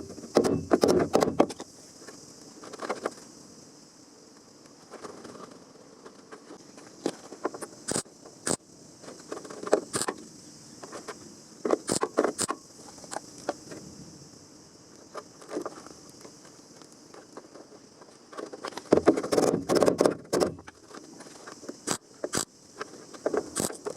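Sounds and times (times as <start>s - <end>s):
steady high hiss: 0.0s - 23.9s.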